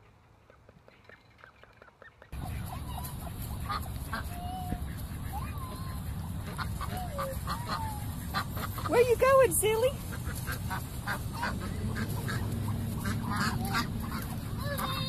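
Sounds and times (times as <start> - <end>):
waterfowl calls: 0.6 - 15.0
steady low rumble: 2.4 - 15.0.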